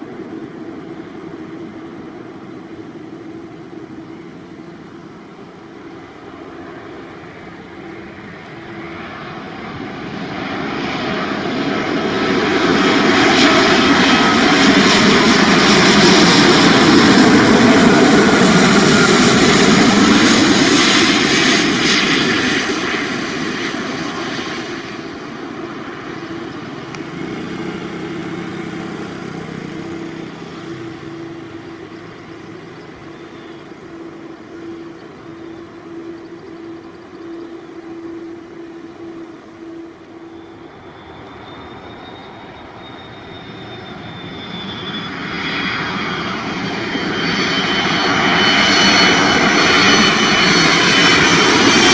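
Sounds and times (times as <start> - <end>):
approaching airliner engine whine: 0.0 - 51.9
jet airliner passing overhead: 0.0 - 51.9.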